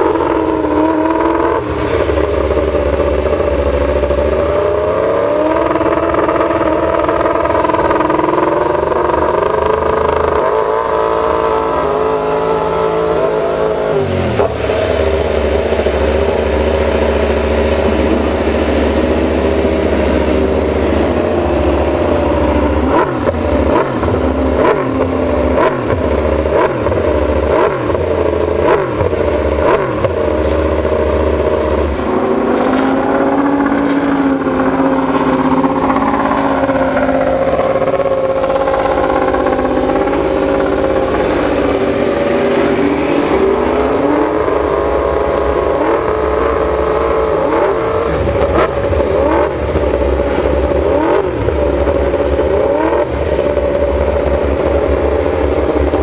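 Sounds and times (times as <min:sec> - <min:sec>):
engine throttle blips: 0:00.0 - 0:56.0
motorcycle engines running: 0:00.0 - 0:56.0.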